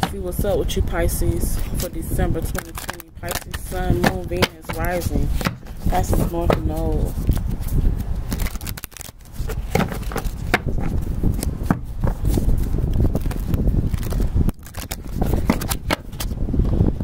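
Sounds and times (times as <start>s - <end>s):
cards being shuffled: 1.6s - 16.4s.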